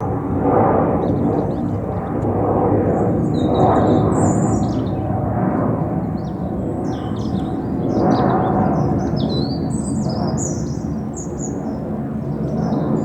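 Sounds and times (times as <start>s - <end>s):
distant jet engines rumbling: 0.0s - 13.0s.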